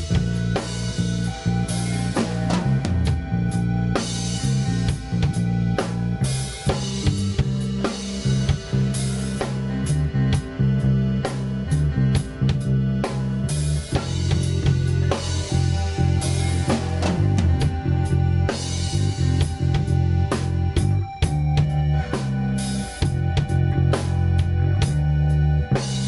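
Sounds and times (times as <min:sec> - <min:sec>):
bass drum: 0:00.0 - 0:26.0
bass line: 0:00.0 - 0:26.0
rock band playing: 0:00.0 - 0:26.0.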